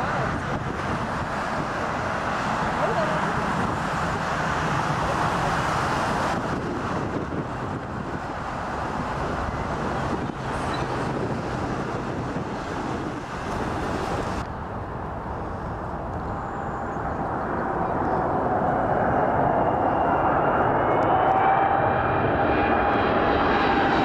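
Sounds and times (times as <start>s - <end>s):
jet engine rushing: 0.0s - 24.0s
wind on microphone: 0.0s - 24.0s.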